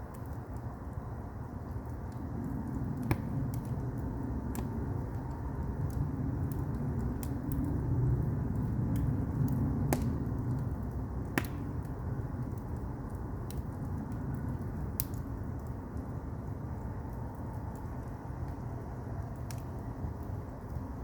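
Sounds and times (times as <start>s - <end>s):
firewood crackling and popping: 0.0s - 21.0s
low rumble of flames: 0.0s - 21.0s.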